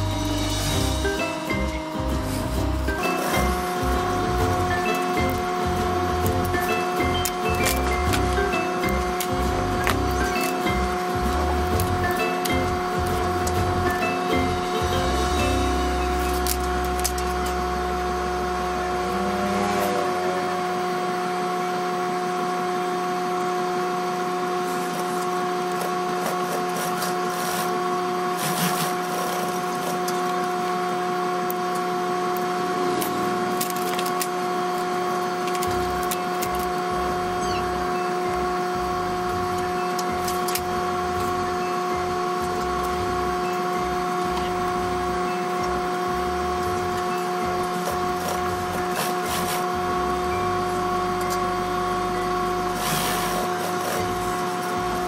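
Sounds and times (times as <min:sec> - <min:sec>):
sewing machine motor hum: 0:00.0 - 0:55.0.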